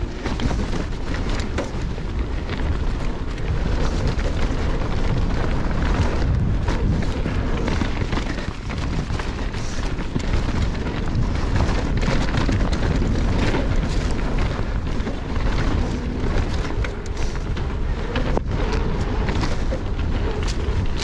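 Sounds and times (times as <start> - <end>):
bike chain clicks and rattles: 0.0 - 21.0
wind buffeting microphone: 0.0 - 21.0.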